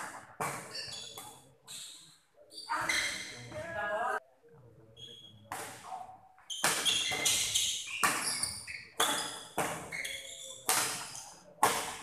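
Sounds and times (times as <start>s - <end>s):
shoes squeaking on court floor: 0.1s - 3.8s, 5.0s - 12.0s.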